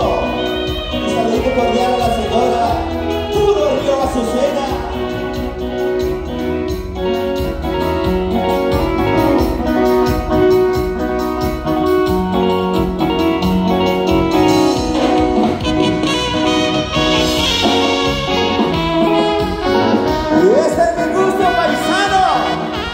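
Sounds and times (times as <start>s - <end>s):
horns playing melody: 0.0s - 22.9s.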